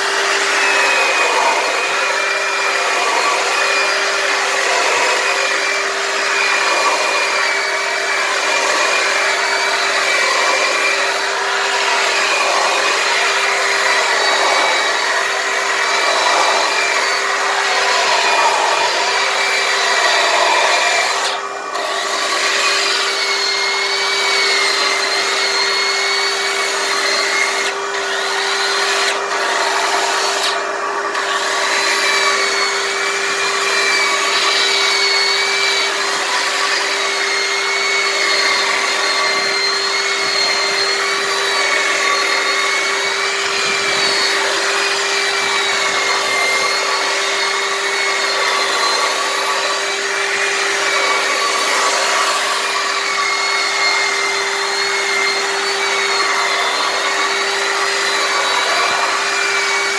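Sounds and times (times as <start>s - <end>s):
drum sander whining: 0.0s - 59.9s
shop vacuum humming: 0.0s - 59.9s.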